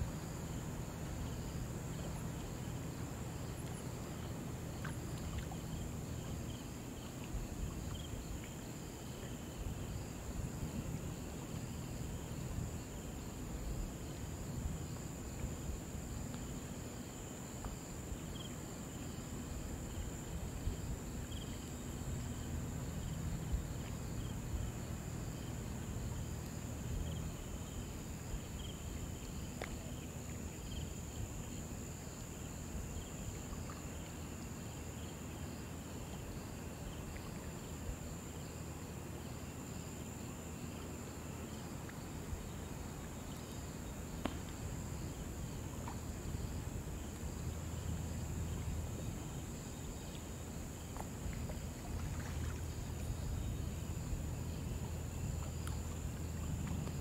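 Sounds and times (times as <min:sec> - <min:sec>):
shallow river water running: 0:00.0 - 0:57.0.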